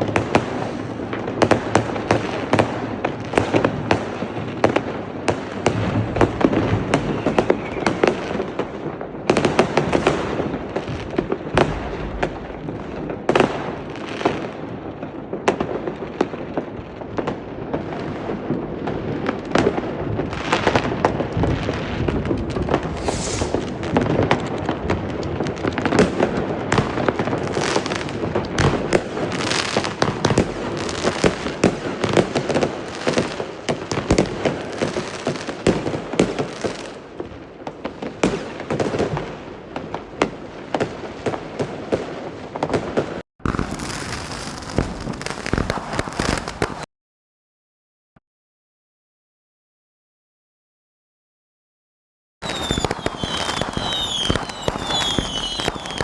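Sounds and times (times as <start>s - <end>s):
fireworks and firecrackers bangs: 0.0s - 46.9s, 52.4s - 56.0s.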